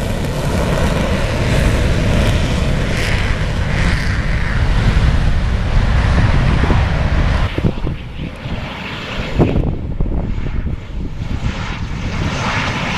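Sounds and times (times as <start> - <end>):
jet engines roaring: 0.0 - 12.9
wind buffeting microphone: 0.0 - 12.9.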